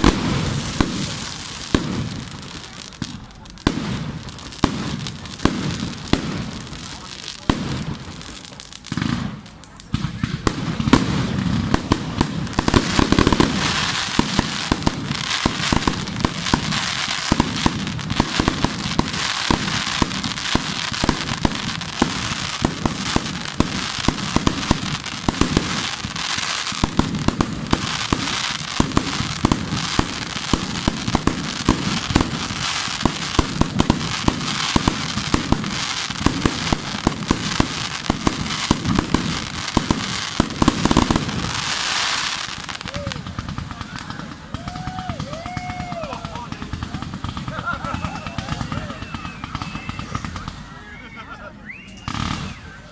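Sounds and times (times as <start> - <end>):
fireworks banging and crackling: 0.0 - 52.9.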